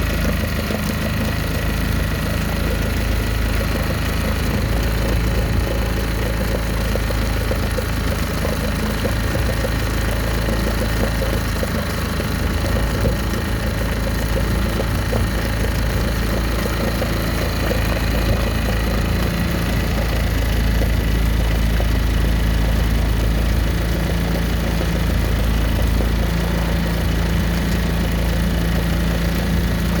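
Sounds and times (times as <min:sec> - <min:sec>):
outboard motor idling: 0:00.0 - 0:30.0.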